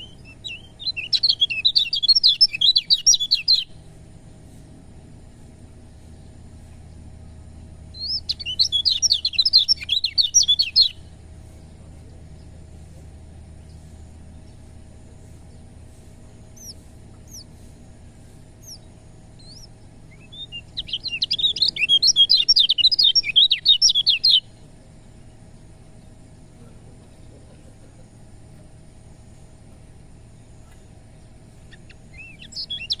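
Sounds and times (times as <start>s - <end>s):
bird high chattering song: 0.0s - 4.5s, 6.1s - 12.9s, 13.6s - 28.0s, 30.2s - 33.0s
low steady hum: 0.0s - 33.0s.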